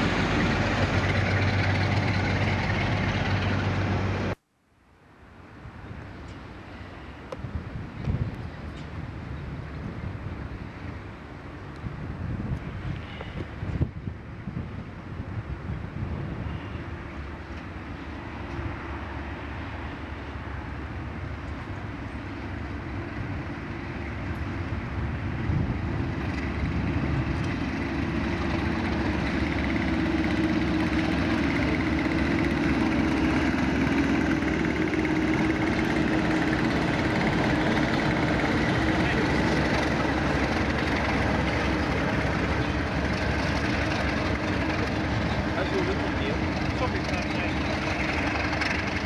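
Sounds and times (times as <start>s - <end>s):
diesel locomotive passing: 0.0s - 4.4s, 5.2s - 49.0s.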